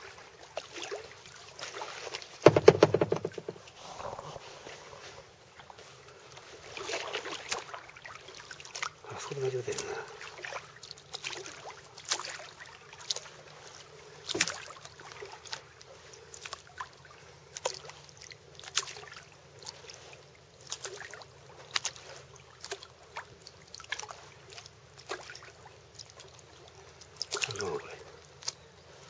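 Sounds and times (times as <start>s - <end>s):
paddle splashing in water: 0.0s - 28.0s.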